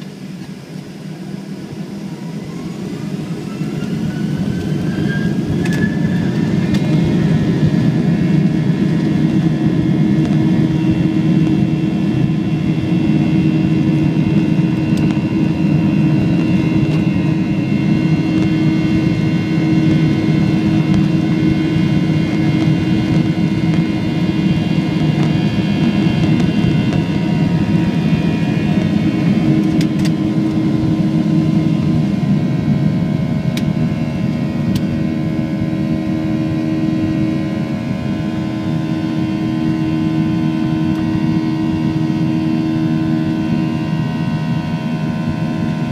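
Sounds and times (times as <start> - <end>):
jet engines whining and rumbling: 0.0 - 45.9.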